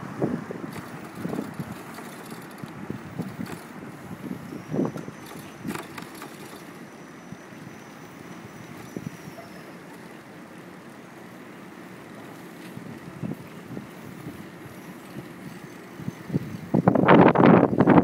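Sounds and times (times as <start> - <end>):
wind buffeting microphone: 0.0 - 9.5, 12.5 - 18.0
bicycle road rumble: 0.0 - 18.0.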